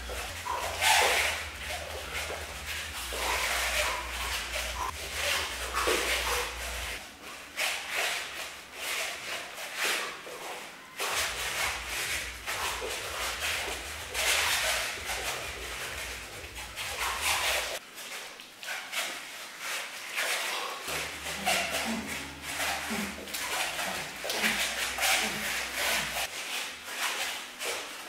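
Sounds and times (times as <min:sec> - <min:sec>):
feet shuffling on wooden floor: 0:00.0 - 0:28.0.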